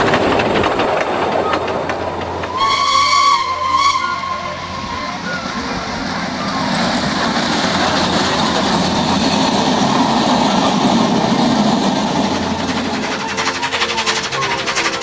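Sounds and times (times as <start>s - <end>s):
steam train passing: 0.0s - 15.0s
wheels rumbling on rails: 0.0s - 15.0s.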